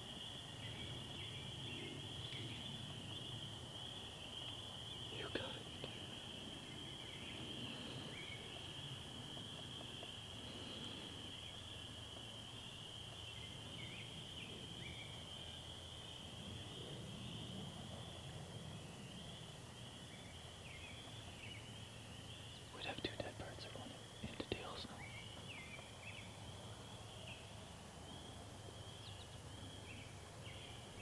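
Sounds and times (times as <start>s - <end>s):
faint bird chirps: 0.1s - 31.0s.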